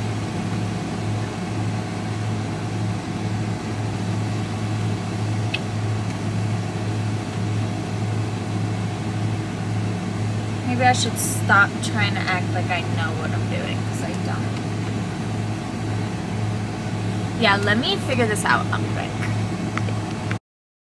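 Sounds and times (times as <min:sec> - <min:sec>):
low mechanical hum: 0:00.0 - 0:20.4.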